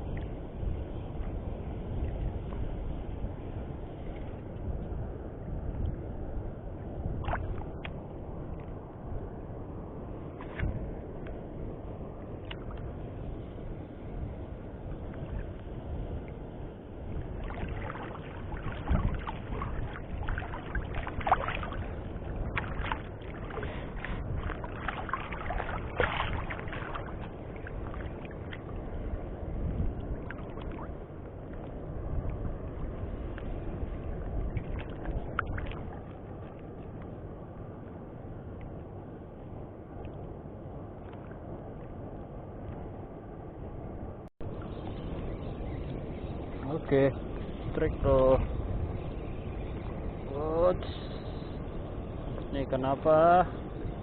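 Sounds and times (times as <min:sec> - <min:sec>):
water lapping around boat: 0:00.0 - 0:43.5
wind rumble: 0:00.0 - 0:54.0.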